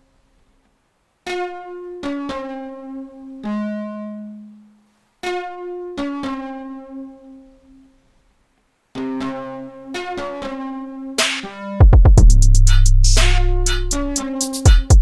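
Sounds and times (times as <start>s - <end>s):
instrumental music with plucked notes: 1.2s - 7.7s, 8.9s - 15.0s.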